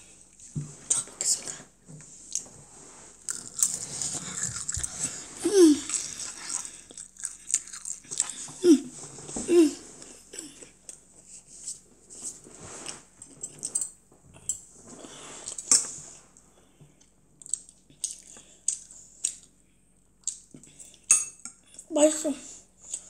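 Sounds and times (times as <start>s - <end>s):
child chewing with wet mouth sounds: 3.2s - 8.9s, 9.5s - 22.0s, 22.6s - 23.0s.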